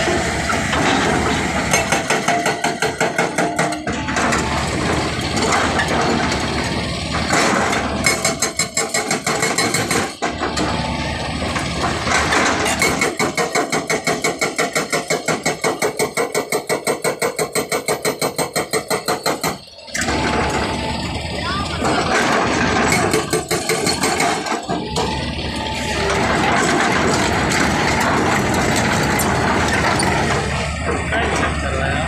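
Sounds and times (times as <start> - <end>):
excavator engine running: 0.0 - 32.0
hydraulic rock breaker hammering: 0.0 - 32.0.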